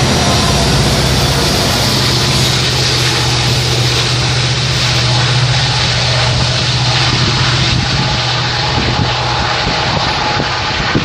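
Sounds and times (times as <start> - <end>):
diesel locomotive engine hum: 0.0 - 11.0
moving train noise: 0.0 - 11.0.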